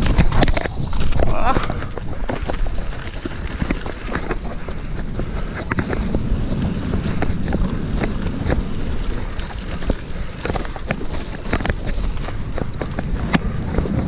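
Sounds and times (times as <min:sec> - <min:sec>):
bike clicks and rattles: 0:00.0 - 0:14.0
bike tyres rumbling over stones: 0:00.0 - 0:14.0
wind buffeting microphone: 0:00.0 - 0:14.0.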